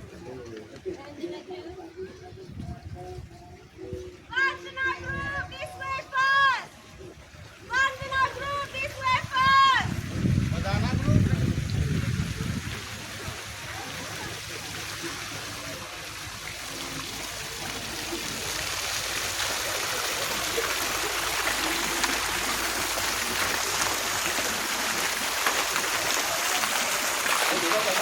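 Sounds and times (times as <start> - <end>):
water rushing and trickling: 0.0 - 28.0.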